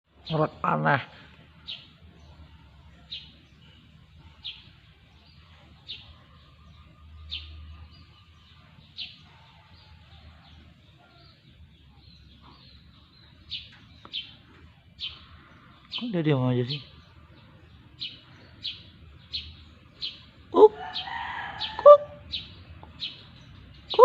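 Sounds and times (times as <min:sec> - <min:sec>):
small bird chirping: 0:01.6 - 0:24.0.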